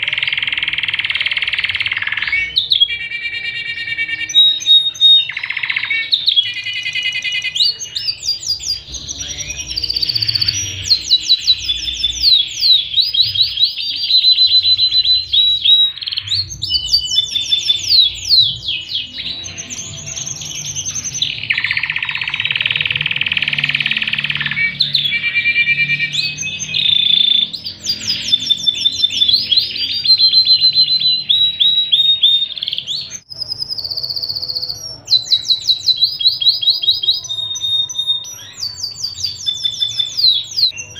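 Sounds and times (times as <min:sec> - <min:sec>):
canary singing trills and chirps: 0:00.0 - 0:40.9.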